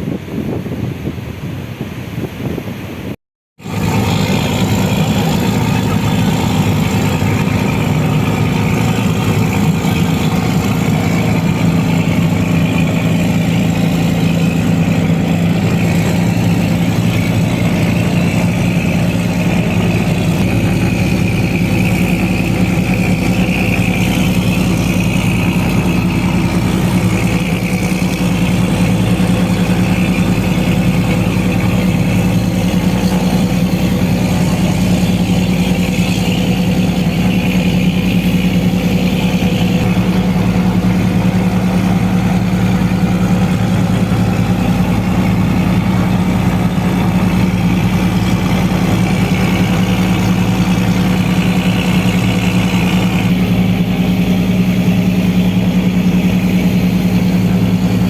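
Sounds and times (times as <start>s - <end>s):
vehicle engine running steadily: 0.0s - 58.0s.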